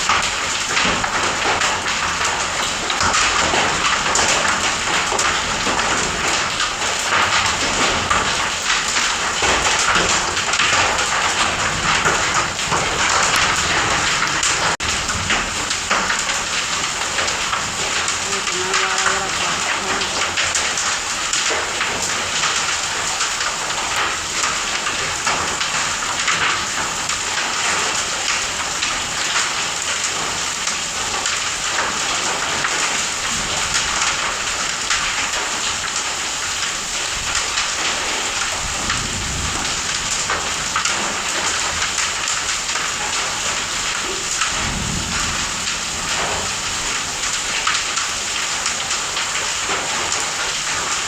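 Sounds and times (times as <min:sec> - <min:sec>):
hail and heavy rain: 0:00.0 - 0:51.0.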